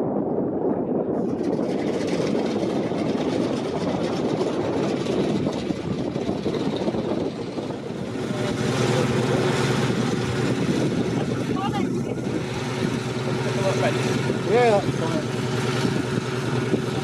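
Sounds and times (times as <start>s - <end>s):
light aircraft piston engine: 1.0s - 17.0s
twin radial engines humming: 1.0s - 17.0s.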